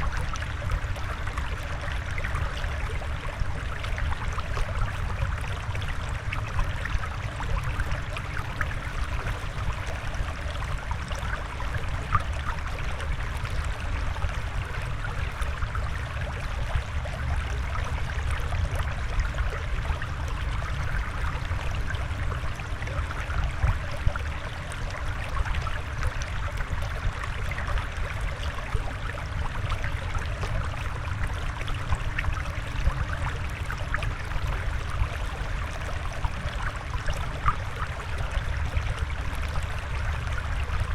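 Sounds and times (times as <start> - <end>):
water flowing and trickling: 0.0 - 40.9.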